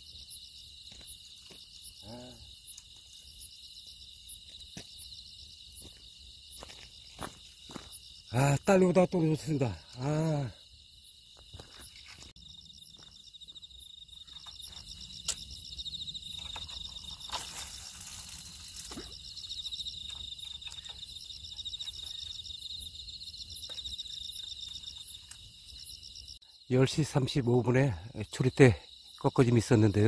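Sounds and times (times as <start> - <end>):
insects chirping trills: 0.0 - 30.0.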